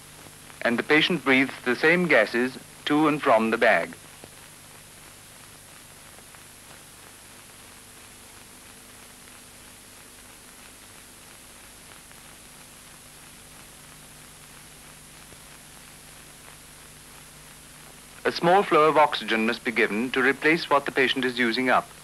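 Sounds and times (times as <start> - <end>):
faint crackles: 0.0 - 22.0
faint hum: 0.0 - 22.0
steady hiss: 0.0 - 22.0.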